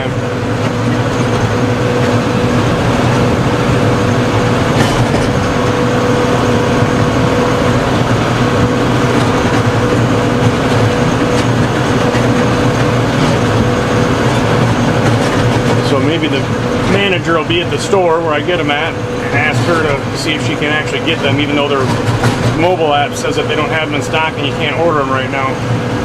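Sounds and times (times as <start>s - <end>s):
thin steady whine: 0.0s - 26.0s
tractor engine droning: 0.0s - 26.0s.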